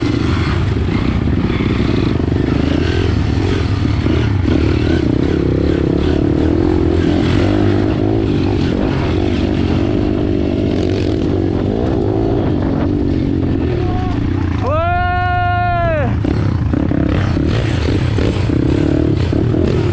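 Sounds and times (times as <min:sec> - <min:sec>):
pit bike engine revving: 0:00.0 - 0:14.8, 0:15.7 - 0:19.9
rumble and rushing noise: 0:00.0 - 0:19.9.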